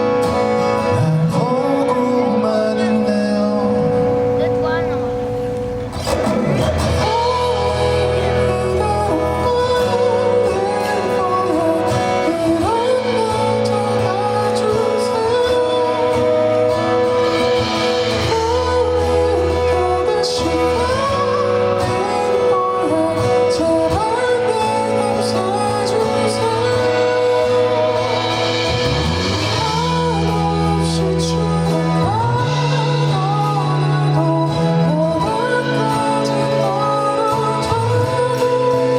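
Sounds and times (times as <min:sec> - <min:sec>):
band accompaniment: 0:00.0 - 0:38.9
person singing a ballad: 0:00.0 - 0:38.9.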